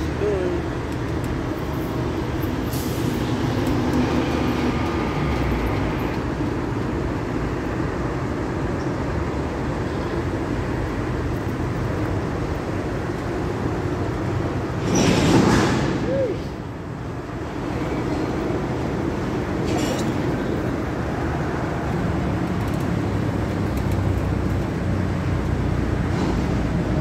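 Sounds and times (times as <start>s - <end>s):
diesel locomotives rumbling: 0.0s - 27.0s.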